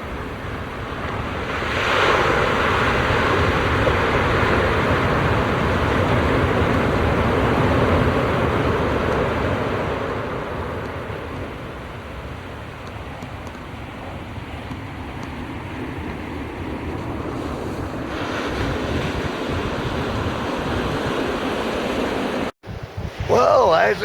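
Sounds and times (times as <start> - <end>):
wind noise: 0.0 - 24.0
surf rushing: 0.1 - 12.4, 15.4 - 24.0.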